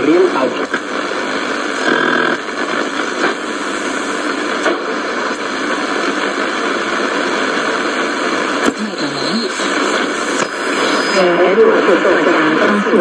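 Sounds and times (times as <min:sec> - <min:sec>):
radio static hiss: 0:00.0 - 0:13.0
faint crackles: 0:00.2 - 0:13.0.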